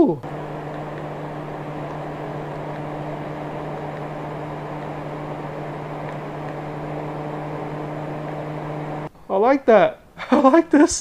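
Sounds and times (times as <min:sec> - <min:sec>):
ceiling fan air rush: 0:00.2 - 0:09.1
low motor hum: 0:00.2 - 0:09.1.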